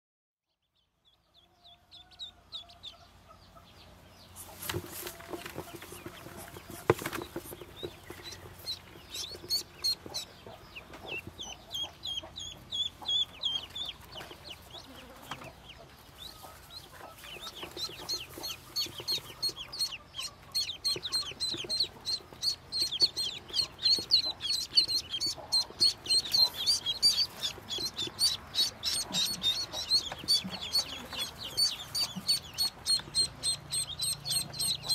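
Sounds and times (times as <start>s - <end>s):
ducklings peeping: 0.6s - 34.9s.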